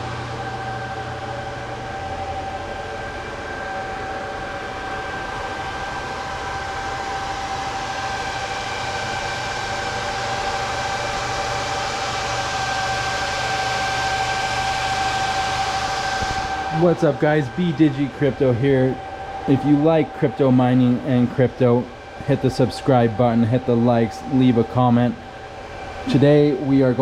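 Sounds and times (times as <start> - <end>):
cooling fans running: 0.0 - 27.0.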